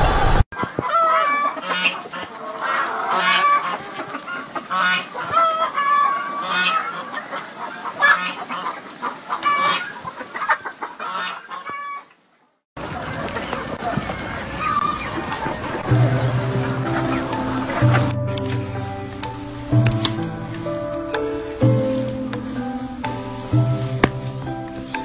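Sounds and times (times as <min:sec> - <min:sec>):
hens cackling and clucking: 0:00.6 - 0:25.0.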